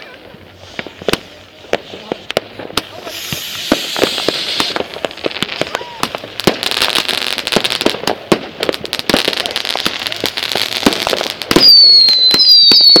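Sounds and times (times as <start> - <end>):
high fireworks whistle: 0.0 - 7.9, 9.2 - 13.0
fireworks cracking: 0.0 - 13.0.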